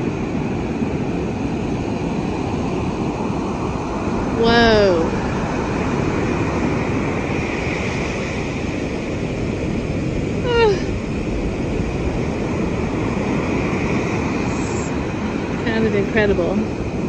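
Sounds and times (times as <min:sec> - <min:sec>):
storm surf breaking on beach: 0:00.0 - 0:17.0.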